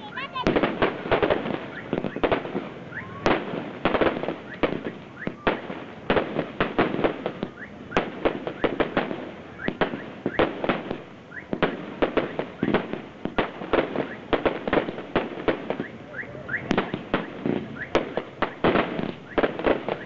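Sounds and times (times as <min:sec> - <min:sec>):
fireworks bangs and cracks: 0:00.0 - 0:20.0.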